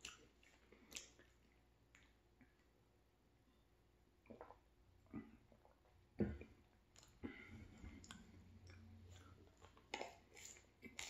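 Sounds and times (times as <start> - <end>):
person chewing food: 0.0 - 2.8, 4.2 - 11.0.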